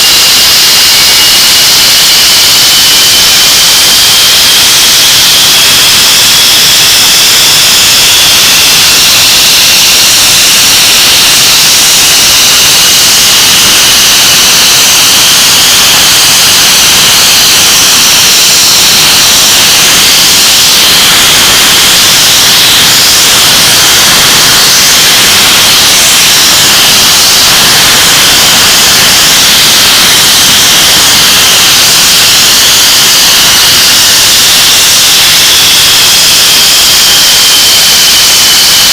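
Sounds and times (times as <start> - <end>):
jet engines roaring with whine: 0.0 - 36.0.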